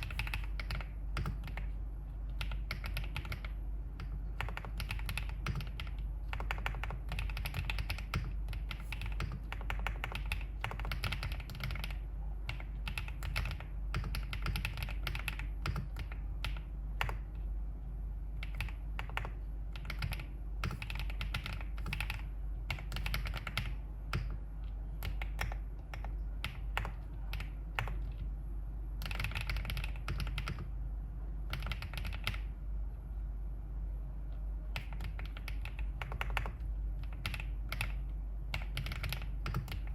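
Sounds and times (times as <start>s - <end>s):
mechanical keyboard typing: 0.0s - 17.4s, 18.4s - 28.3s, 29.0s - 30.7s, 31.5s - 32.5s, 34.8s - 39.9s.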